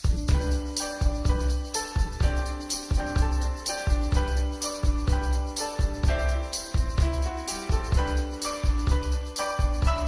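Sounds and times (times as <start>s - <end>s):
drums with kick-drum beat: 0.0s - 10.0s
grand piano: 0.0s - 10.0s.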